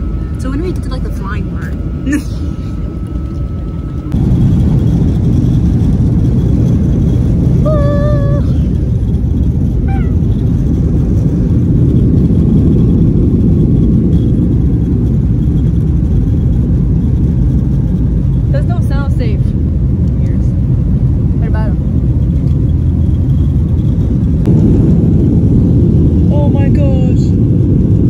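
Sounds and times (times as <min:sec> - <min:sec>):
jet engine and airflow rumble: 0:00.0 - 0:28.0.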